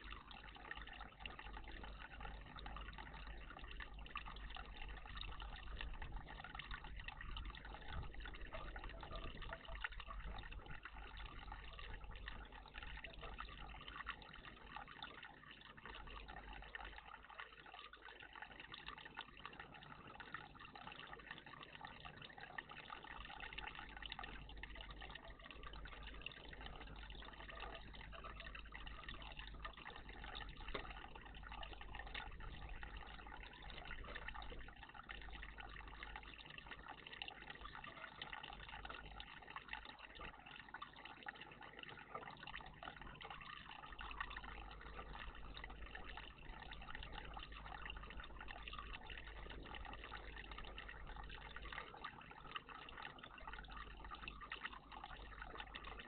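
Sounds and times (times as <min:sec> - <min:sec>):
water trickling in bird bath: 0:00.0 - 0:56.0.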